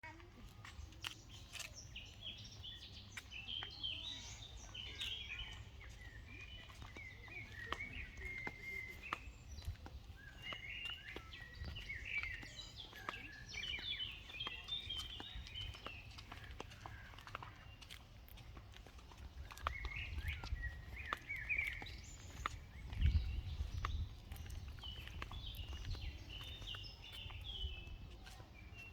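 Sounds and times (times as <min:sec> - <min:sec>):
birds singing and chirping: 0:00.5 - 0:28.9.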